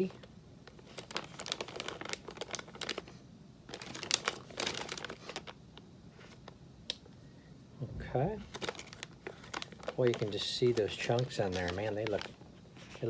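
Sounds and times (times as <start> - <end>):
plastic bag crinkling: 0.0 - 6.6, 8.2 - 13.0.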